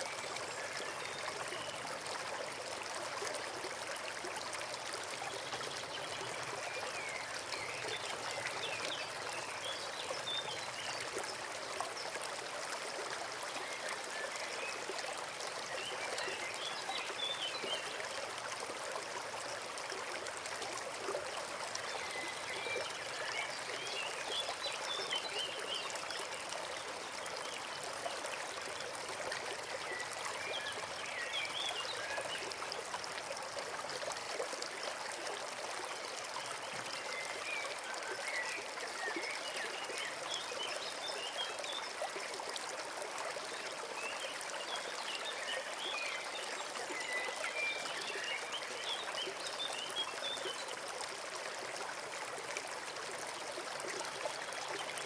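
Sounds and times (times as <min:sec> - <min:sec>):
brook running over stones: 0:00.0 - 0:55.0.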